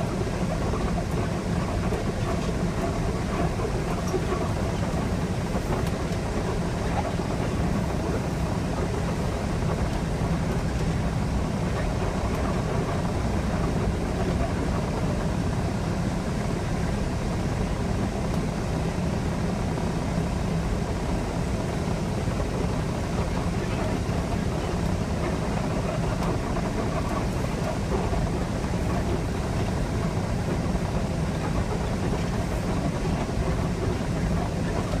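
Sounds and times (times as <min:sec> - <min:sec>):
diesel truck engine drone: 0:00.0 - 0:35.0.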